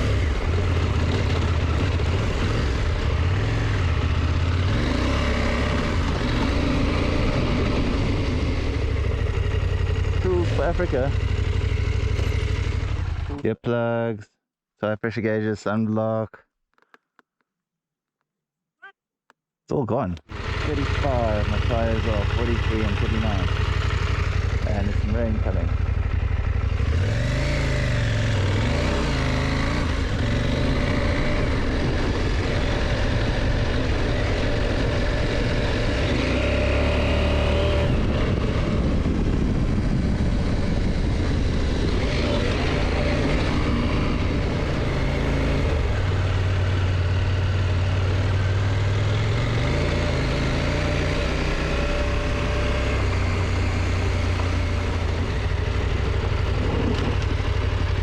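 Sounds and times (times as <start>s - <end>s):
wind and road rush: 0.0s - 13.3s, 20.3s - 58.0s
motorcycle engine revving: 0.0s - 13.5s, 20.2s - 58.0s.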